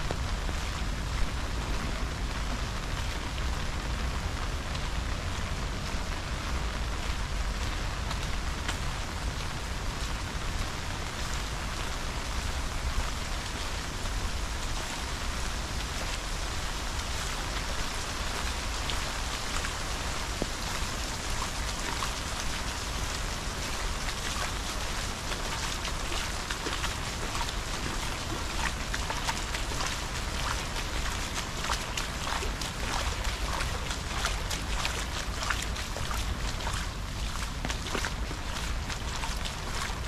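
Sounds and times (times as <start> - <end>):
raindrops ticking: 0.0 - 40.0
steady rain falling: 0.0 - 40.0.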